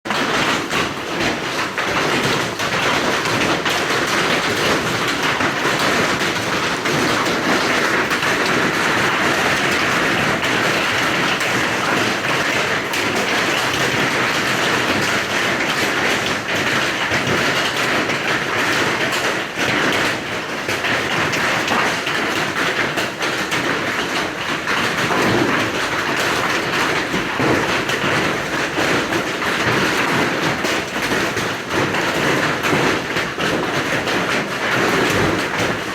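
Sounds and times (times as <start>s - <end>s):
hailstones clattering on surfaces: 0.1s - 35.9s.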